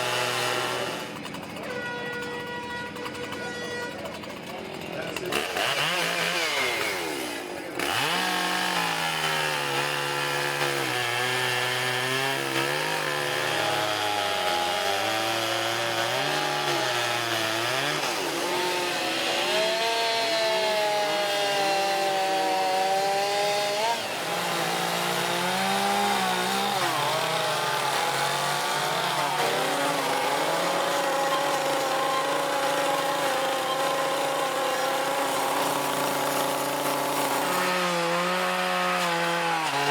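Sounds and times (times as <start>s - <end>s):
chainsaws cutting wood: 0.0s - 39.9s.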